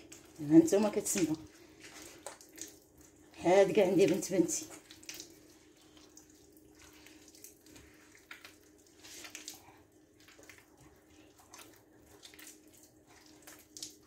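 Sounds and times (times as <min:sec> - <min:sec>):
wet squishing of kneading: 0:00.0 - 0:14.0.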